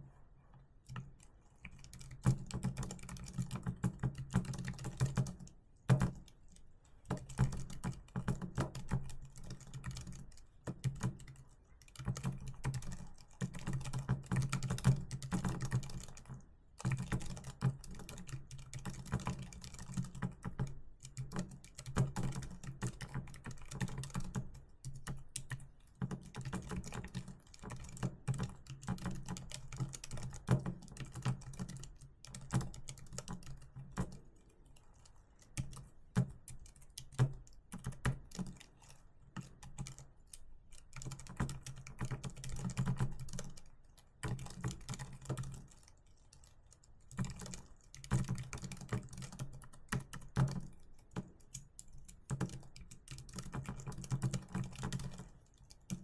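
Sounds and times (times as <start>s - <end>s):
typing on a keyboard: 0.9s - 56.0s.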